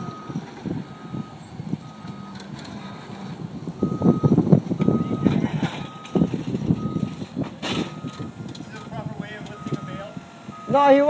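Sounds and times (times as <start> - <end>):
reversing alarm beeping: 0.0 - 2.5, 3.8 - 11.0
low uneven rumble: 0.0 - 11.0.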